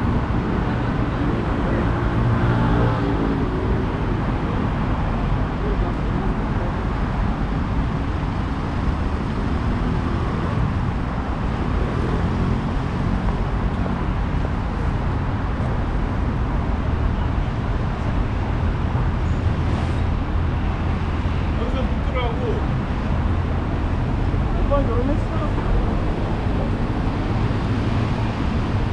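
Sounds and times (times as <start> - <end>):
road traffic hum: 0.0 - 28.9.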